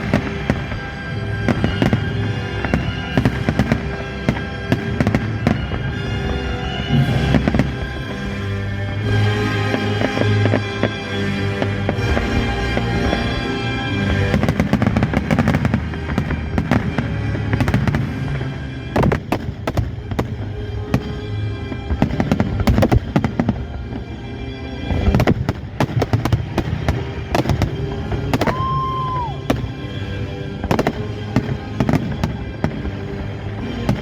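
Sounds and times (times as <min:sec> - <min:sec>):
fireworks bangs and crackles: 0:00.0 - 0:34.0
music playing: 0:00.0 - 0:34.0.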